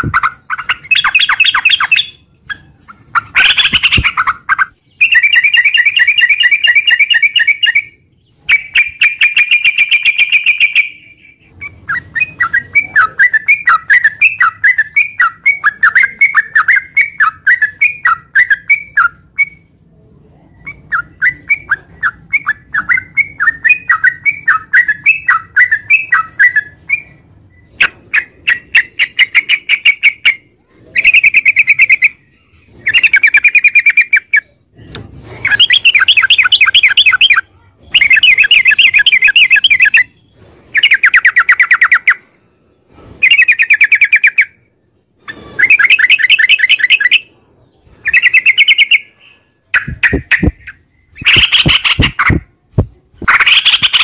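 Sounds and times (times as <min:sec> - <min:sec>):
bird trilling and chattering: 0:00.0 - 0:19.8, 0:20.5 - 0:42.3, 0:43.0 - 0:44.6, 0:45.2 - 0:54.0.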